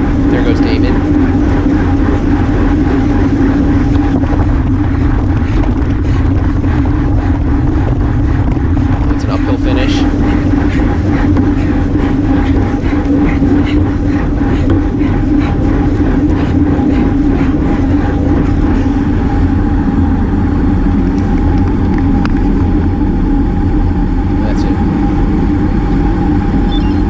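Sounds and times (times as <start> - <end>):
bicycle tyre noise: 0.0 - 9.3, 10.0 - 27.0
constant hum: 0.0 - 27.0
wind rumble: 0.0 - 27.0.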